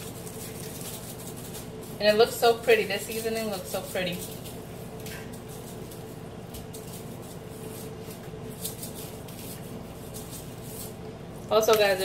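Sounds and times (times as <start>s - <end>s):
spice shaker rattling: 0.0s - 11.0s
faint hum: 0.0s - 12.0s.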